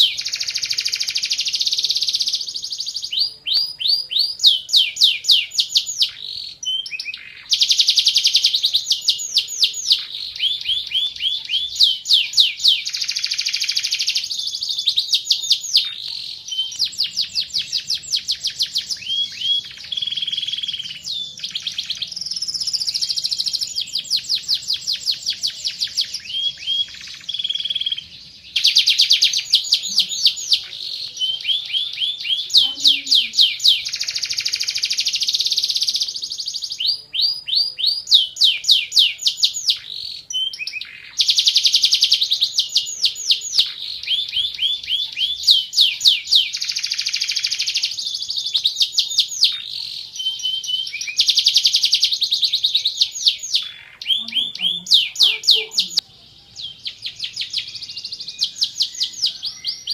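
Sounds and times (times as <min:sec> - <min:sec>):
canary singing in trills: 0:00.0 - 0:59.9.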